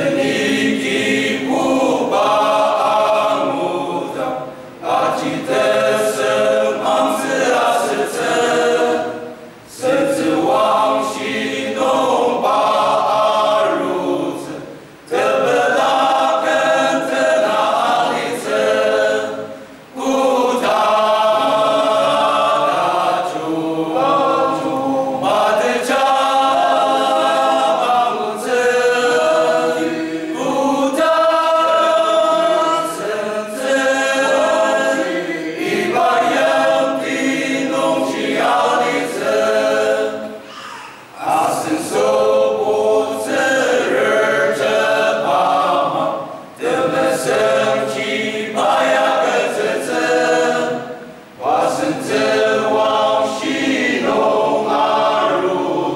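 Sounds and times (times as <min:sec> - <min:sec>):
male choir singing a cappella: 0:00.0 - 0:55.9.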